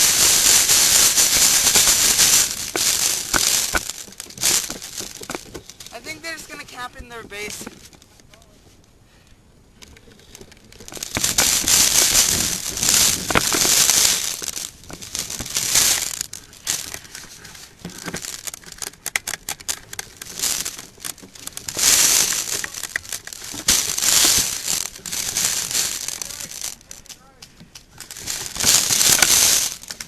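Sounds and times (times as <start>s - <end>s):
clothing rustling and crinkling: 0.0s - 8.6s, 10.1s - 30.0s.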